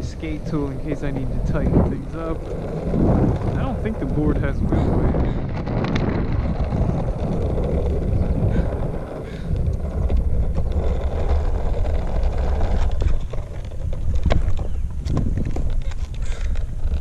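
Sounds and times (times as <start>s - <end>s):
skateboard wheels rolling on concrete: 0.0s - 17.0s
wind buffeting microphone: 0.0s - 17.0s.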